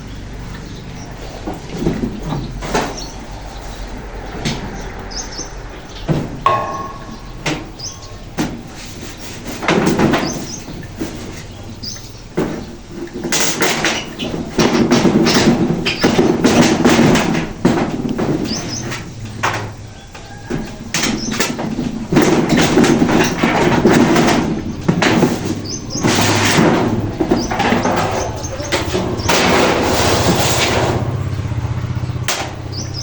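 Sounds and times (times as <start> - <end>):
knocks and clatter: 0.0 - 33.0
scraping and rustling: 0.0 - 33.0.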